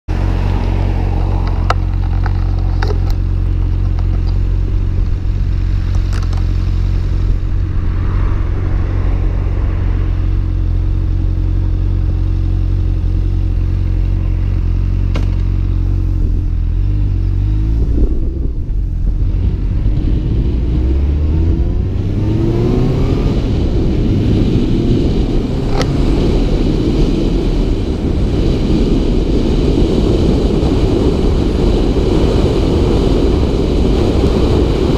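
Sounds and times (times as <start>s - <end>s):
motorcycle engine idling and revving: 0.0s - 34.9s
wind noise on microphone: 0.1s - 34.9s.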